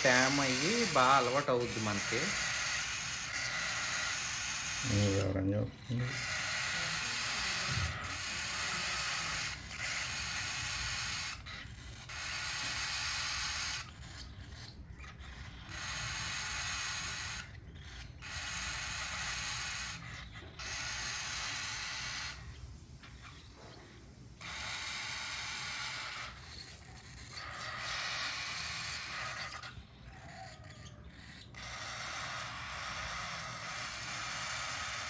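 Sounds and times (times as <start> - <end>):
chicks raspy begging calls: 0.0 - 35.0.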